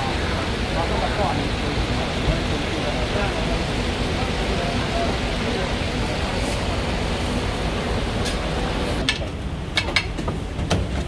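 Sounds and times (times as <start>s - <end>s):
faint engine hum: 0.0s - 11.0s
street traffic: 0.0s - 11.0s.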